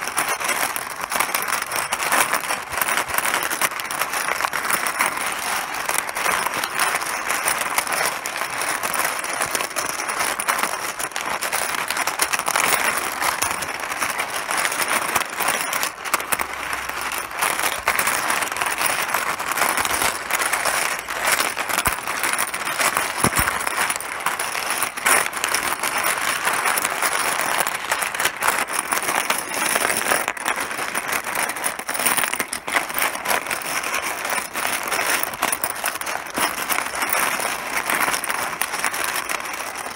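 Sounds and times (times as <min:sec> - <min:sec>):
mahjong pieces clattering: 0:00.0 - 0:39.9.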